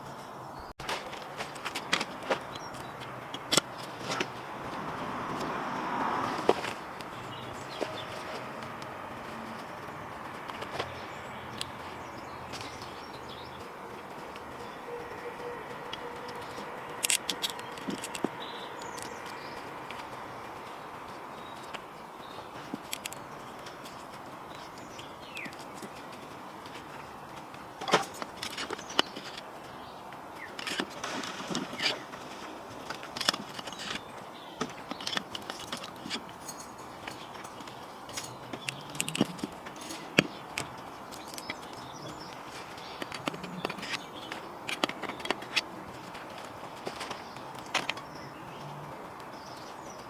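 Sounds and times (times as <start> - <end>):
hand tools clicking and knocking: 0.8 - 49.3.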